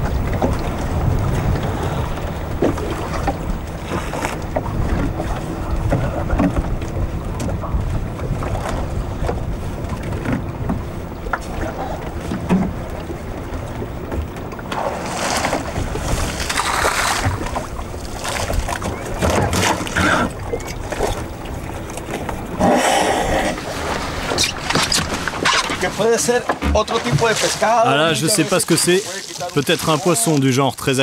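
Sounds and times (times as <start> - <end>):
wind buffeting microphone: 0.0 - 26.0
water lapping against boat: 0.0 - 31.0.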